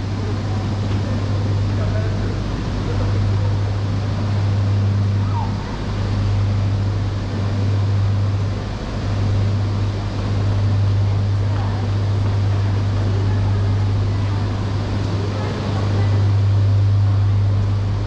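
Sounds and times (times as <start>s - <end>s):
low hum: 0.0s - 18.0s
noisy wash of sound: 0.0s - 18.0s.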